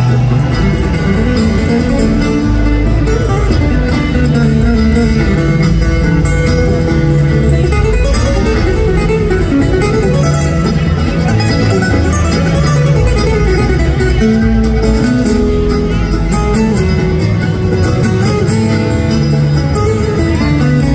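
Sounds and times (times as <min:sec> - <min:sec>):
acoustic guitar: 0:00.0 - 0:20.9
banjo: 0:00.0 - 0:20.9
mandolin: 0:00.0 - 0:20.9
upright bass: 0:00.0 - 0:20.9.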